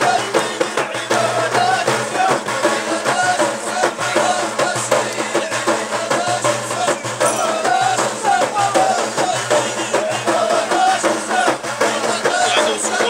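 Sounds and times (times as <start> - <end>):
frame drums beating: 0.0 - 13.0
men singing together: 0.0 - 13.0.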